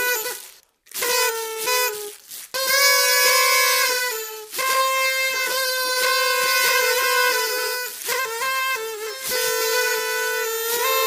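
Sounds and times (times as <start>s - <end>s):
party trumpet blasts: 0.0s - 11.0s.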